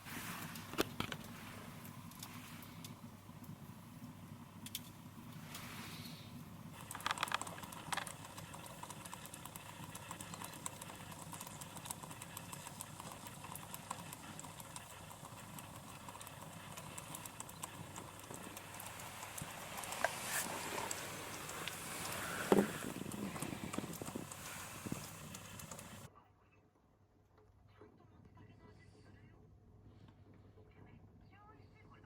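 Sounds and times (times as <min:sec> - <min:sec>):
wood fire crackling: 0:00.0 - 0:26.1.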